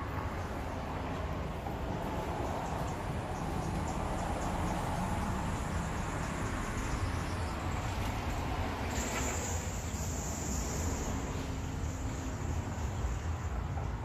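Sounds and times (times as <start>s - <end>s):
high insect-like hiss: 0.9s - 14.0s.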